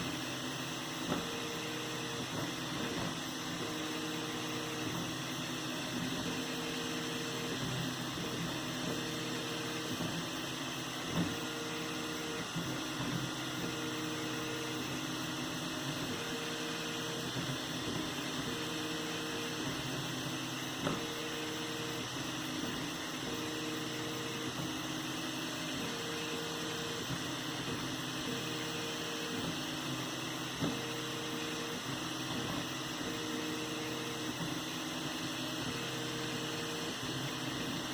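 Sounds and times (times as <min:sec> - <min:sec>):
printer fan hum: 0:00.0 - 0:37.9
stepper motor whine: 0:00.0 - 0:37.9.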